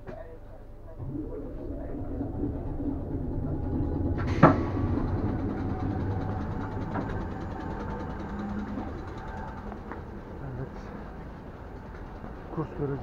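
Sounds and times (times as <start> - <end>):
standing train humming: 0.0 - 13.0.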